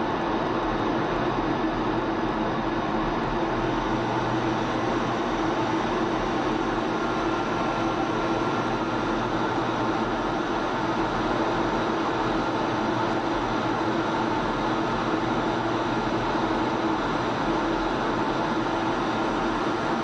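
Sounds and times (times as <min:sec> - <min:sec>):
jet cockpit engine and airflow noise: 0:00.0 - 0:20.0.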